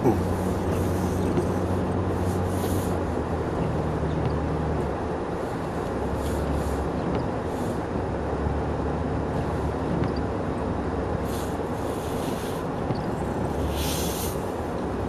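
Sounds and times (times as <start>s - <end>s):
tyres rolling through snow: 0.0s - 10.0s, 11.1s - 15.0s
car engine running: 0.0s - 15.0s.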